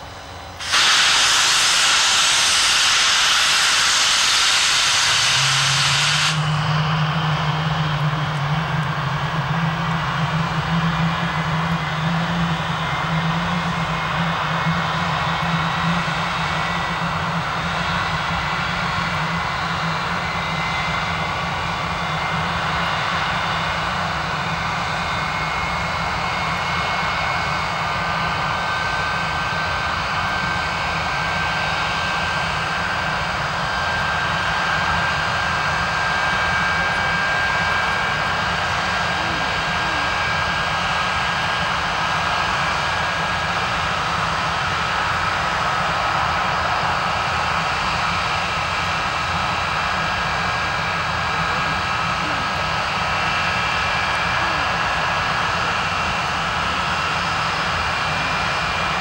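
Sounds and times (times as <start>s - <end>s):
high turbine whine: 0.0s - 59.0s
jet engine roaring: 0.0s - 59.0s.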